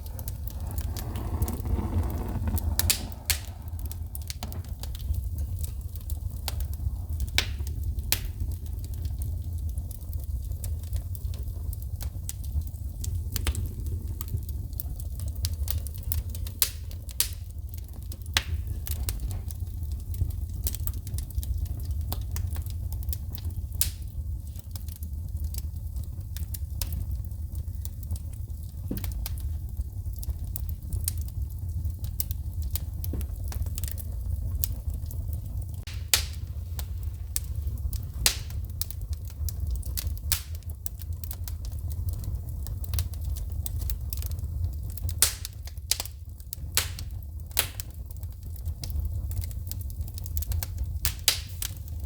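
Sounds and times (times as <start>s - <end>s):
low rumble of flames: 0.0s - 52.0s
wood fire crackling and popping: 0.0s - 52.0s.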